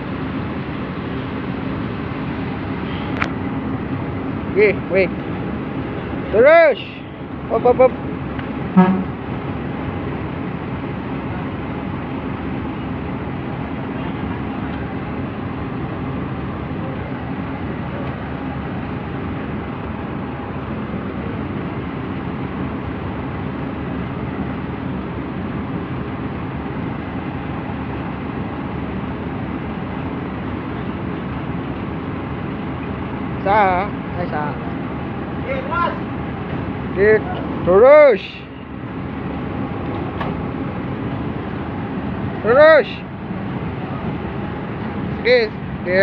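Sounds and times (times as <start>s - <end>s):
heavy diesel engine running: 0.0s - 46.0s.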